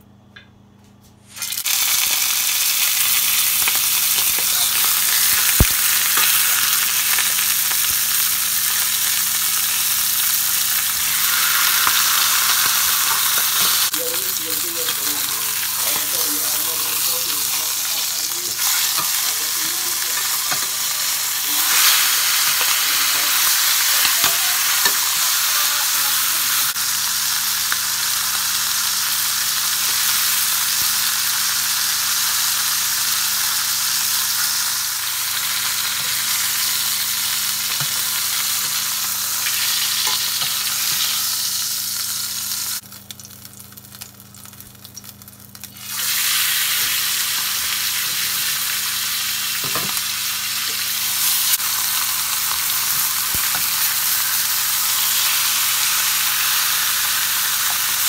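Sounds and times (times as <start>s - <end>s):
chicken sizzling in oil: 1.3s - 58.0s.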